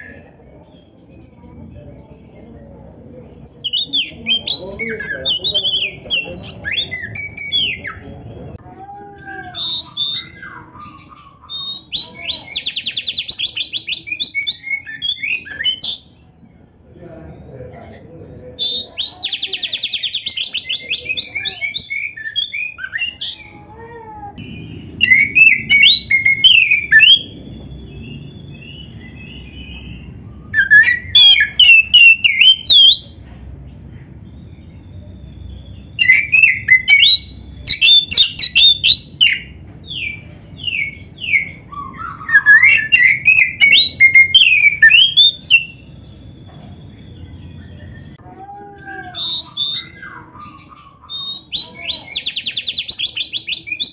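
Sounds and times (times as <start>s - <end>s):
bird singing varied song: 0.0s - 53.9s.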